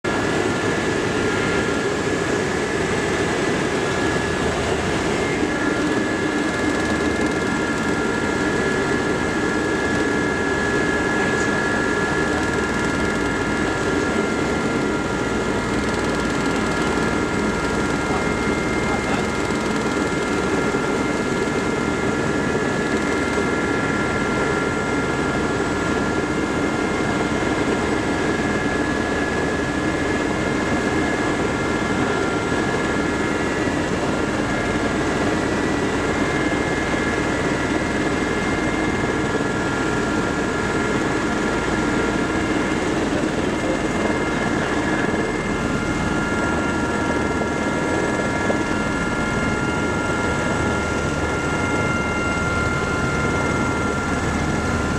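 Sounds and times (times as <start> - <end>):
helicopter rotor rumble: 0.0 - 54.9
helicopter turbine whine: 0.0 - 54.9.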